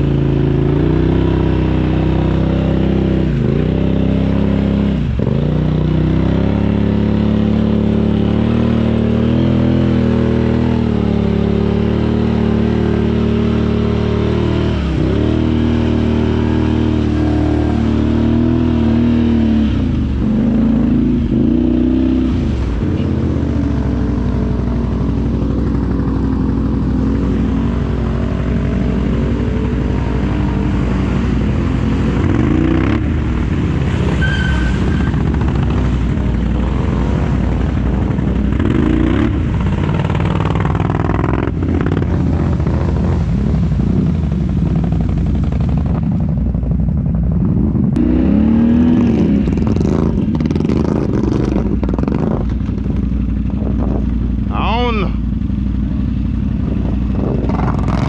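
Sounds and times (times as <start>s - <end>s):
quad engine revving: 0.0s - 34.2s, 34.8s - 45.7s, 48.0s - 53.0s, 56.6s - 58.0s
driving through mud and water: 0.0s - 58.0s.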